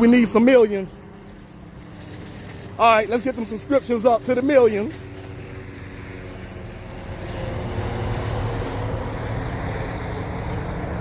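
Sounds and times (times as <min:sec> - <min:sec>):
aircraft engine rumble overhead: 0:00.0 - 0:11.0.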